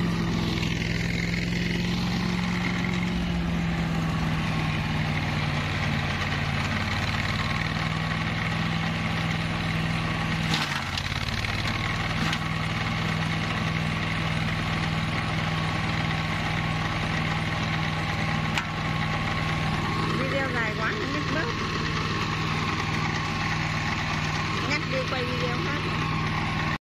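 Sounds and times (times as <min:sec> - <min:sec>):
mower engine running: 0:00.0 - 0:26.8.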